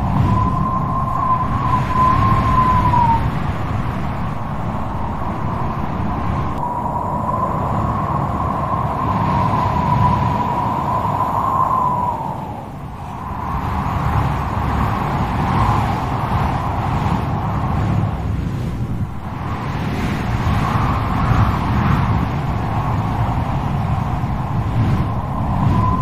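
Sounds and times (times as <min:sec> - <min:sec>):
strong wind rumbling: 0:00.0 - 0:26.0
wind howling whistle: 0:00.0 - 0:26.0.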